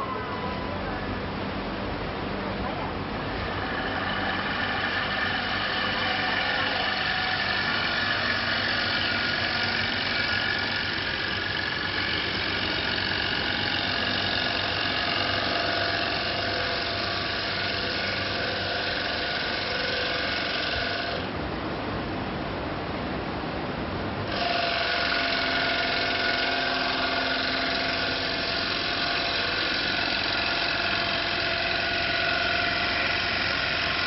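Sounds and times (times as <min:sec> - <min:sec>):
wood lathe whining: 0:03.2 - 0:21.4, 0:24.3 - 0:34.0.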